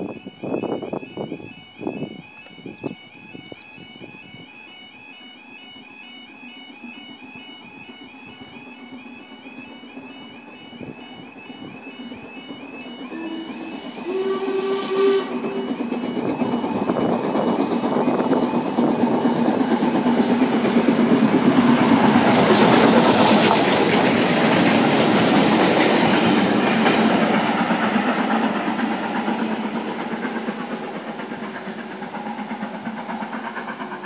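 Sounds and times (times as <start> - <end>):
steam locomotive passing: 0.0 - 34.0.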